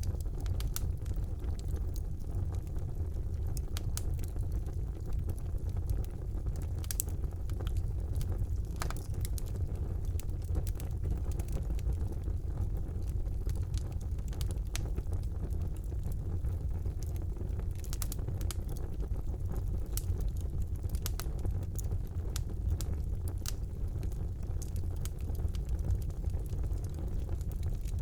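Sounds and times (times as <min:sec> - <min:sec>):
fire flames rumbling: 0:00.0 - 0:28.0
wood fire crackling and popping: 0:00.0 - 0:28.0.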